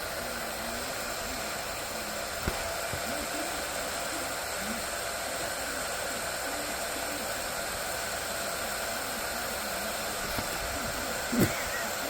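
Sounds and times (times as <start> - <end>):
blow dryer whooshing hiss: 0.0 - 12.0.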